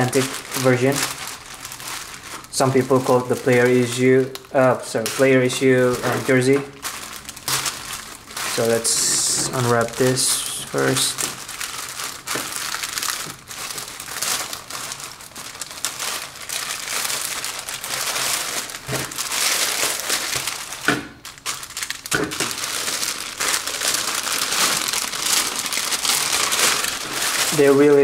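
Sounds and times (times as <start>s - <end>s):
paper and plastic wrapping crinkling: 0.0s - 28.0s.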